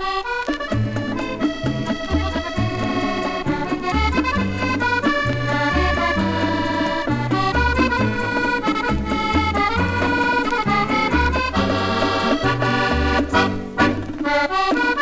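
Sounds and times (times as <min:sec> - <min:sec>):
accordion playing melody: 0:00.0 - 0:15.0
bass line: 0:00.7 - 0:14.2.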